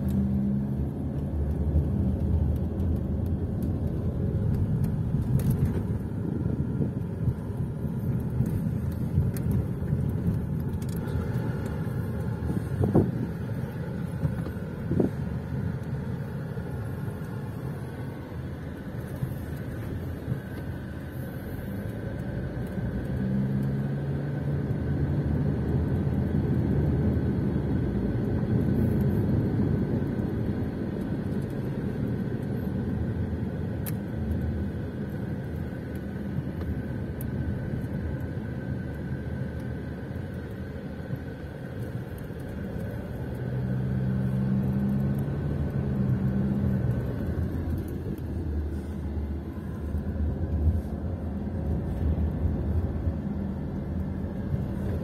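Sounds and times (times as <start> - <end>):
low engine drone: 0.0 - 55.0
tyre and road noise: 0.0 - 55.0.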